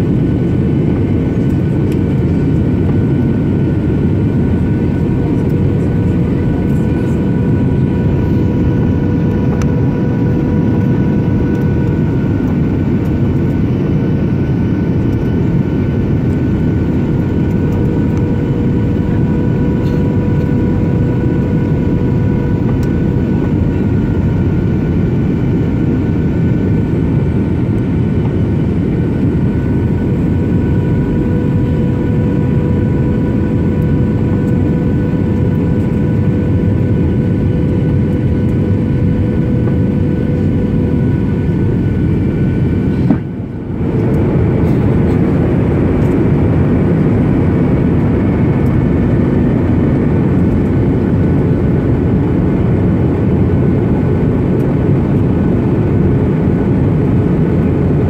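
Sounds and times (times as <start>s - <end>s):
airflow rush in aircraft cabin: 0.0s - 58.0s
jet engine whine: 0.0s - 58.0s.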